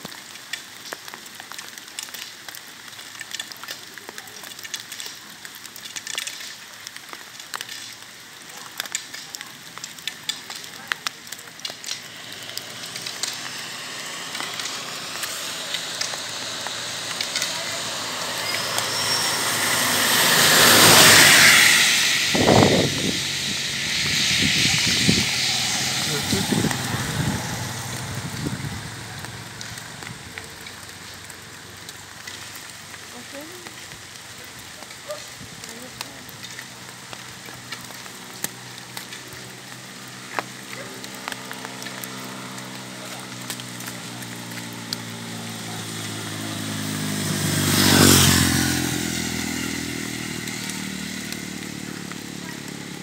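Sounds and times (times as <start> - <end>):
motorcycle passing on wet road: 0.0 - 53.0
rain hissing on wet road: 0.0 - 53.0.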